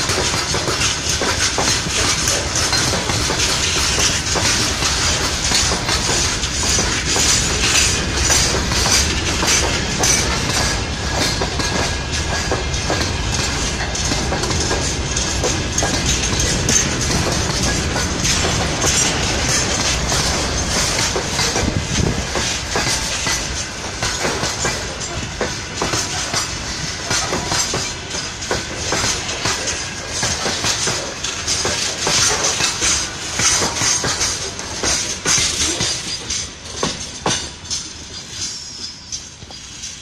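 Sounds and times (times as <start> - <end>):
freight train rolling past: 0.0 - 40.0
wheels clickety-clack on rail joints: 0.0 - 40.0.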